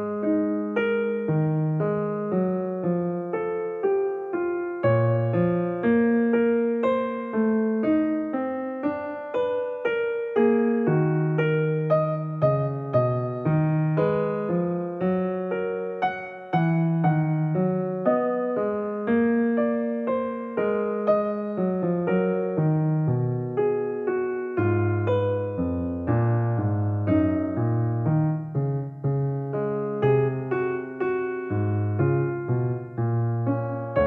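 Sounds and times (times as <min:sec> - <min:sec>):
calm solo piano melody: 0:00.0 - 0:34.0.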